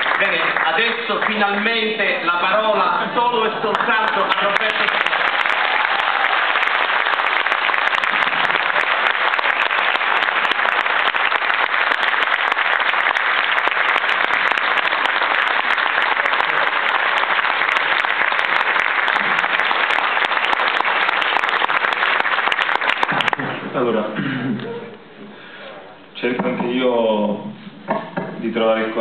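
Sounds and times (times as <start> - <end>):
audience applauding: 0.0 - 23.7.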